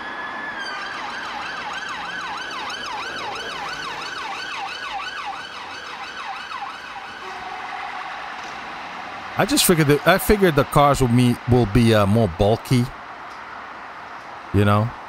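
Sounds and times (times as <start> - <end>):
police siren yelping: 0.0 - 12.6
faint road traffic hum: 0.0 - 15.0.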